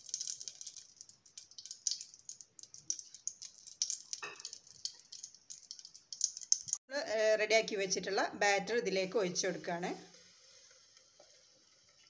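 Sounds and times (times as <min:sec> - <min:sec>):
ghee crackling in a pot: 0:00.0 - 0:06.8, 0:08.6 - 0:12.0.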